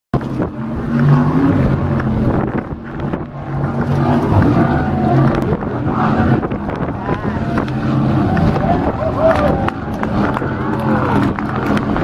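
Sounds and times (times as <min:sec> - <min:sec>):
powerboat engines droning: 0:00.2 - 0:12.0
wind on microphone: 0:00.2 - 0:12.0.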